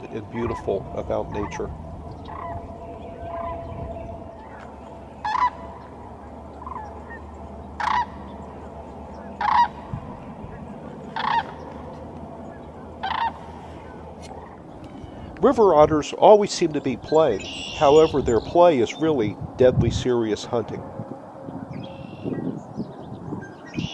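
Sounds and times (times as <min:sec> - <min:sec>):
cranes calling: 0:00.0 - 0:15.9, 0:16.6 - 0:19.2, 0:21.5 - 0:23.9.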